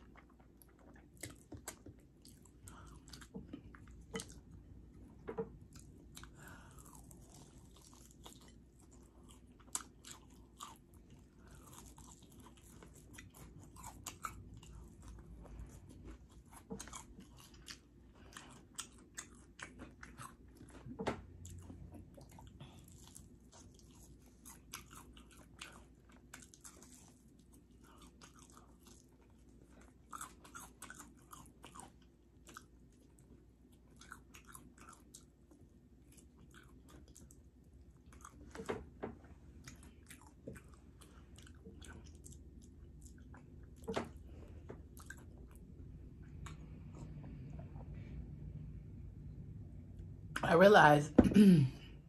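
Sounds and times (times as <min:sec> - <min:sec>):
chewing and smacking: 0:00.0 - 0:48.0.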